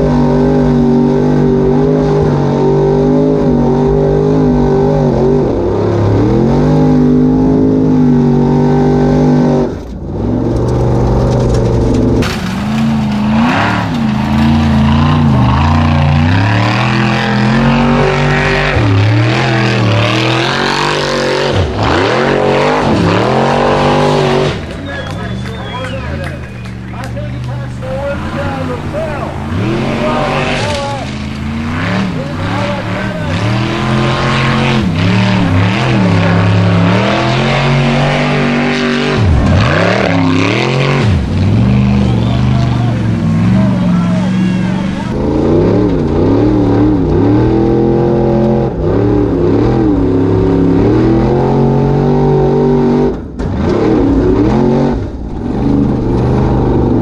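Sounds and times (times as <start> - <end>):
buggy engine revving hard: 0.0 - 57.0.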